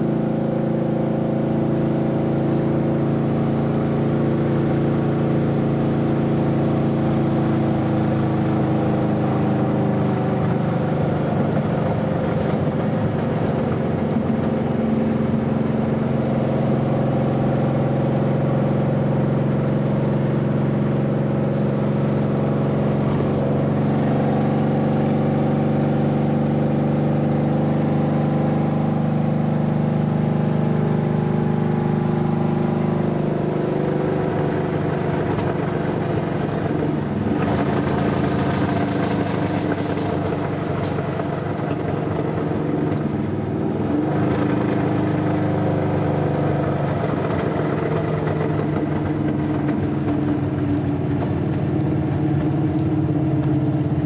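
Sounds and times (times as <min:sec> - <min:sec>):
car engine running while driving: 0:00.0 - 0:54.0.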